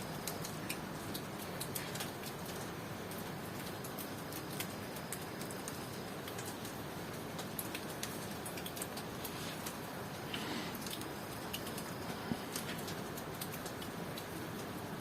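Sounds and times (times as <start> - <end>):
raindrops ticking on surfaces: 0.0 - 15.0
steady rain hiss: 0.0 - 15.0.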